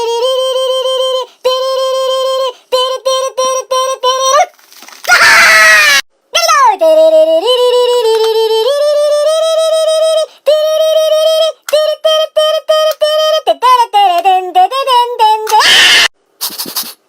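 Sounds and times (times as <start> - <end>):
high-pitched voice singing: 0.0 - 4.5, 6.3 - 16.1.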